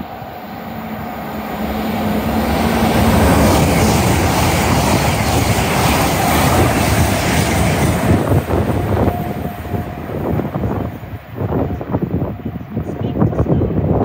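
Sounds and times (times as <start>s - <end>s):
train running over rails: 0.0s - 14.0s.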